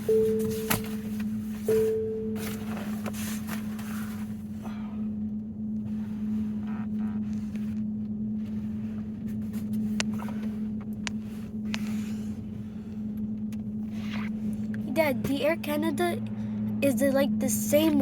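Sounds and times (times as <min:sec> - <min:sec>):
car humming tone: 0:00.0 - 0:18.0
low rumble: 0:00.0 - 0:18.0.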